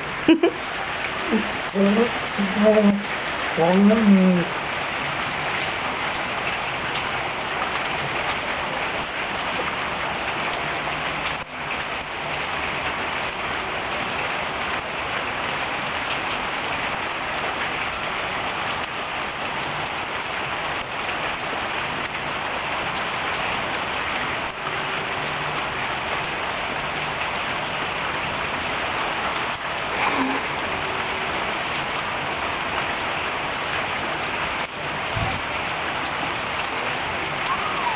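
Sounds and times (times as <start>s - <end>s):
rain on the ground: 0.0s - 37.9s.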